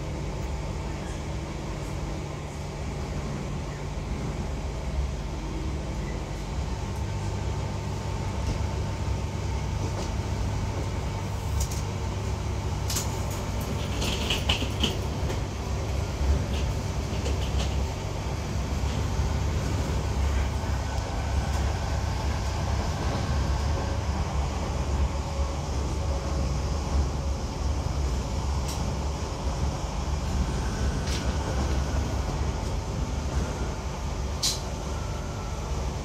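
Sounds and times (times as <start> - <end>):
train running rumble: 0.0 - 36.0.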